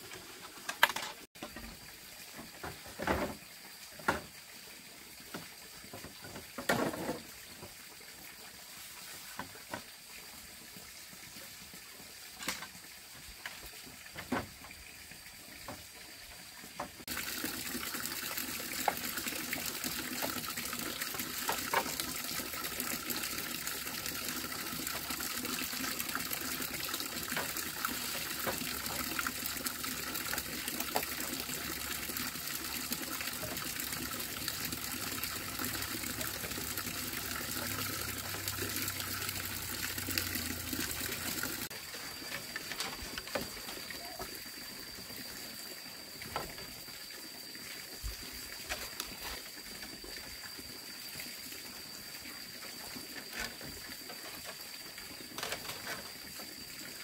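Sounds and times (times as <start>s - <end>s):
water trickling: 1.4s - 57.0s.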